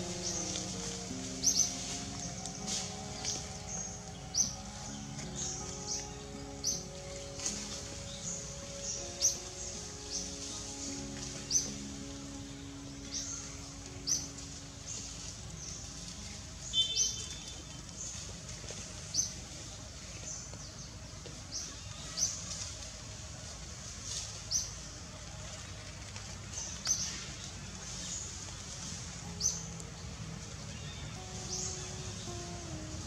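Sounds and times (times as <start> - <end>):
forest background hiss: 0.0 - 33.0.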